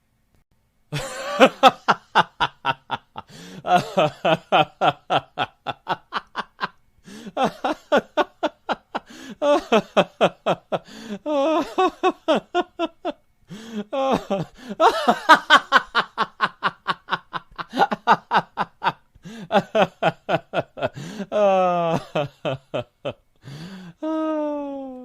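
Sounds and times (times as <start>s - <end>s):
person laughing: 0.9s - 23.2s.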